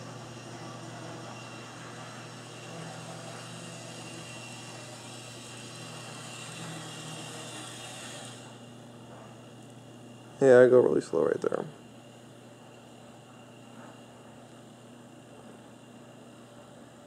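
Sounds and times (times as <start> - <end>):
model train motor whirring: 0.0 - 14.5
wheels on rails: 0.0 - 16.9.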